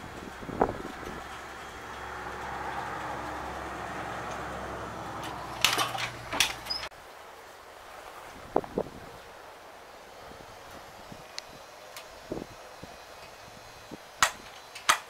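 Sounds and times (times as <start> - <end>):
water pumps humming: 0.0 - 15.0.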